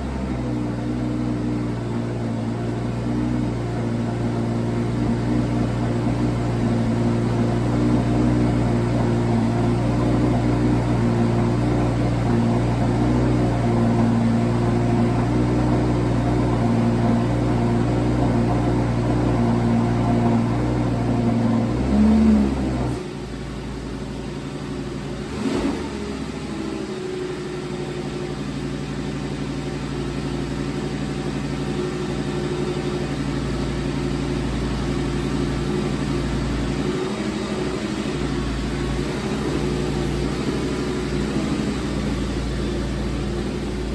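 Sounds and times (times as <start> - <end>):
sports car engine idling: 0.0 - 43.9.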